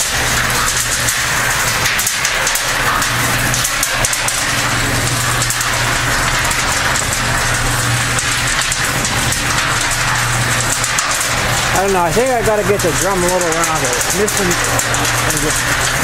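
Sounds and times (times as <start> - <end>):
cement mixer running: 0.0 - 16.0.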